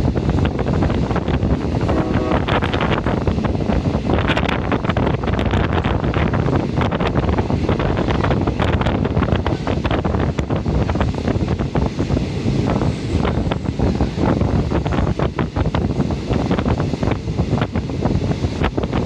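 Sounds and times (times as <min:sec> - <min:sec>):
train rumbling: 0:00.0 - 0:19.0
wind buffeting microphone: 0:00.0 - 0:19.0.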